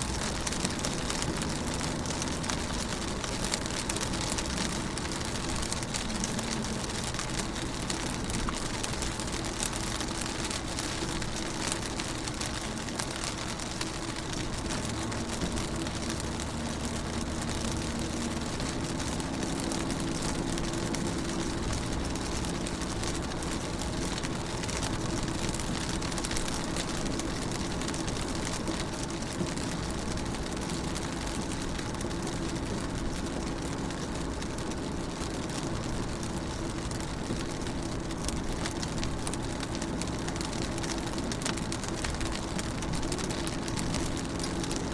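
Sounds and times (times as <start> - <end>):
rain pattering on a car: 0.0 - 44.9.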